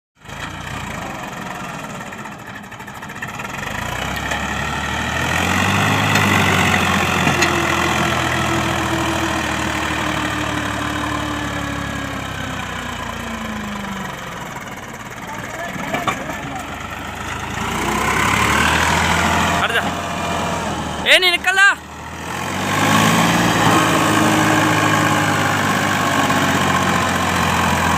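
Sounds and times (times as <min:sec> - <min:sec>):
tractor diesel engine running: 0:00.2 - 0:27.9.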